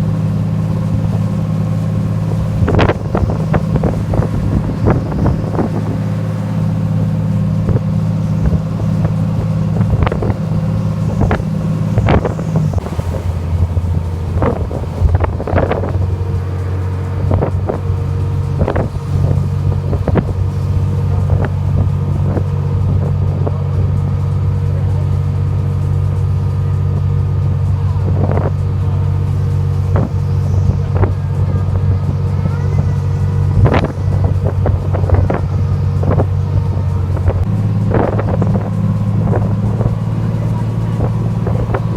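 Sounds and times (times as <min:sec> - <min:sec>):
boat engine drone: 0:00.0 - 0:41.9
wind buffeting microphone: 0:00.0 - 0:41.9.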